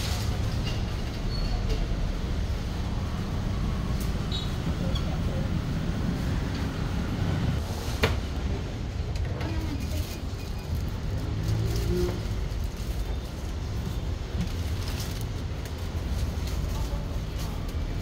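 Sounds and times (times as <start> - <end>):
passing vehicles rumble: 0.0 - 18.0.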